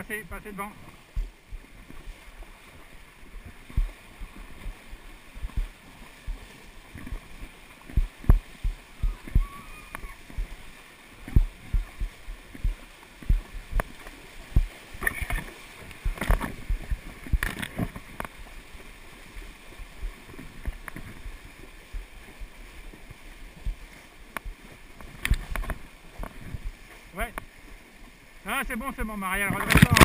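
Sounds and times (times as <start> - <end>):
hooves splashing in water: 0.0 - 30.0.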